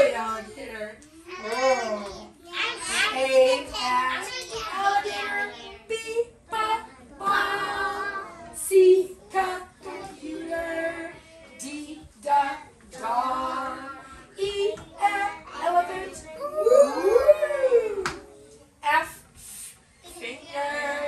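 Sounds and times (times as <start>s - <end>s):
woman and children singing: 0.0s - 21.0s.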